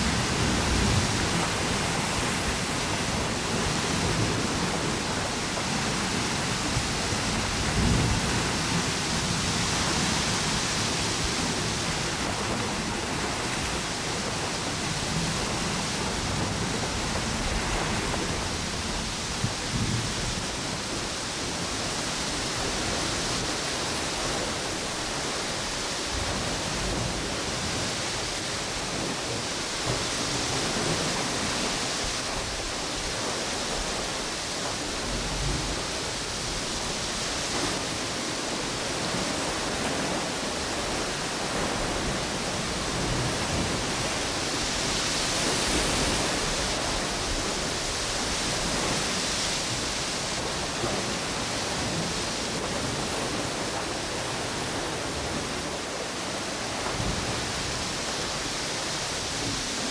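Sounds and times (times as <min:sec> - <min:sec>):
surf: 0:00.0 - 0:59.9.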